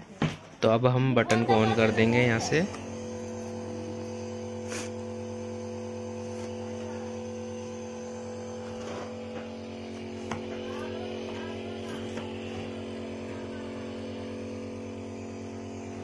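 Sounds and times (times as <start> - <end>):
compressor nebulizer humming: 1.1 - 16.0.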